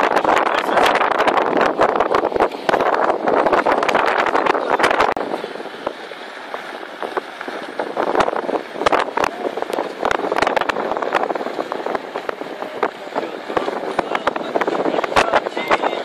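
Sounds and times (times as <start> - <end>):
vehicle wind and road noise: 0.0 - 16.0.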